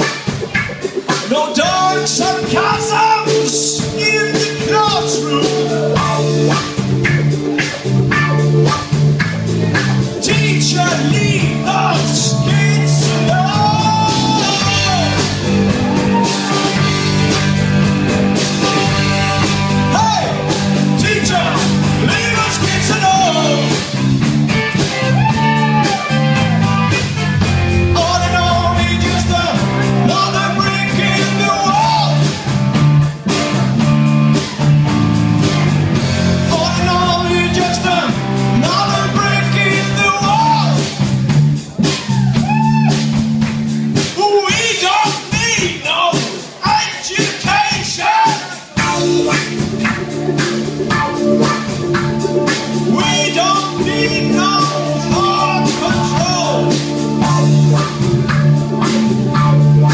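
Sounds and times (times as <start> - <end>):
wavering guitar melody: 0.0 - 41.9, 48.8 - 59.9
live rock band playing: 0.0 - 59.9.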